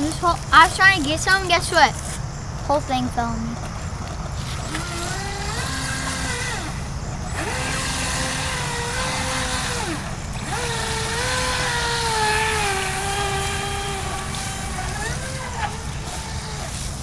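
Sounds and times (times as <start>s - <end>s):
rc boat motor whining: 0.0s - 17.0s.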